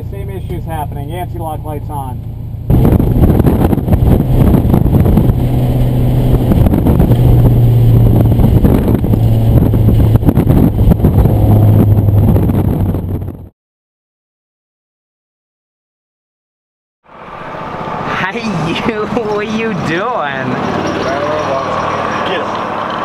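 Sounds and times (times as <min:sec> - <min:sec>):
car engine running: 0:00.0 - 0:13.5, 0:17.1 - 0:23.0
road and wind noise: 0:00.0 - 0:13.5, 0:17.1 - 0:23.0.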